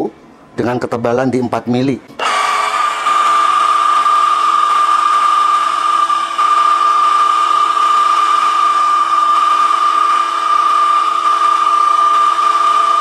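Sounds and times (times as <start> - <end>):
drill boring through steel: 2.2 - 13.0.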